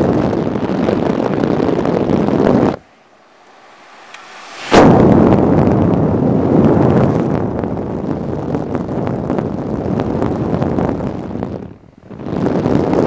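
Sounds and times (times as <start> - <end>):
fan wind noise on microphone: 0.0 - 13.0.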